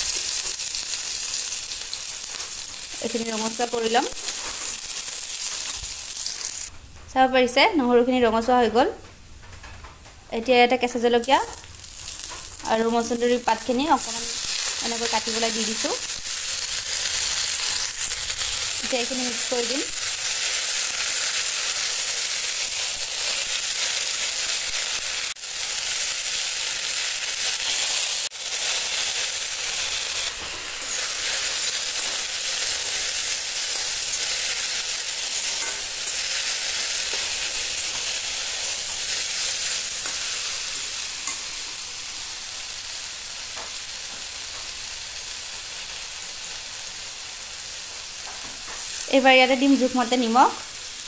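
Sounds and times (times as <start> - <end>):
leaves sizzling in hot oil: 0.0 - 6.7, 10.8 - 51.0.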